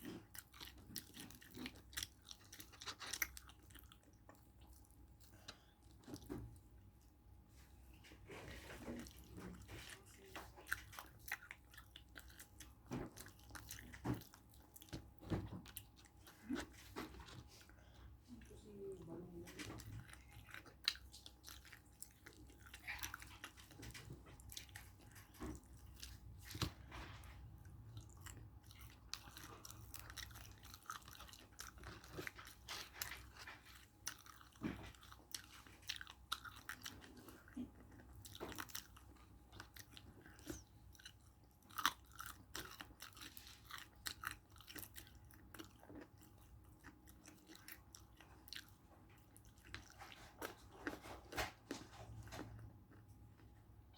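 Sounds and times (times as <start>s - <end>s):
chewing and crunching fried chicken: 0.0s - 53.9s.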